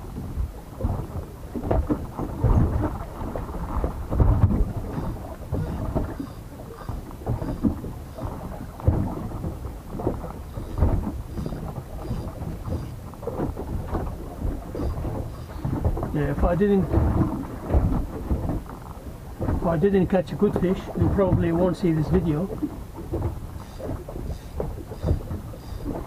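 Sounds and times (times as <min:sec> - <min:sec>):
water lapping against boat hull: 0:00.0 - 0:26.0
wind buffeting microphone: 0:00.0 - 0:26.0.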